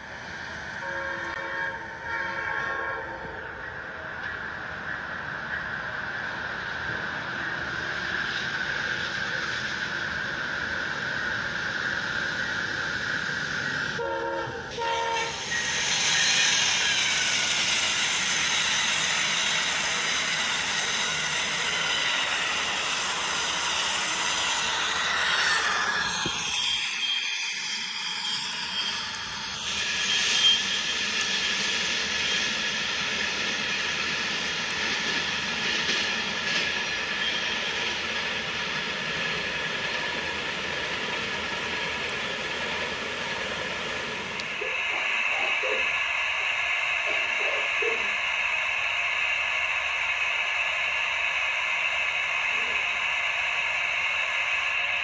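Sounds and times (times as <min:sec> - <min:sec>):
train wheel noise: 0:00.0 - 0:55.0
model train motor whine: 0:06.9 - 0:55.0.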